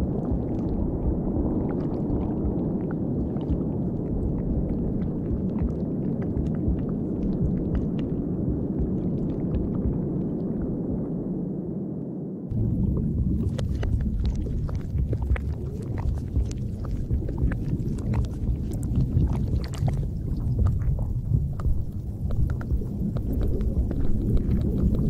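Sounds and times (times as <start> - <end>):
faint clicks and pops: 0.0 - 11.2, 12.5 - 25.0
low rumbling noise: 0.0 - 25.0.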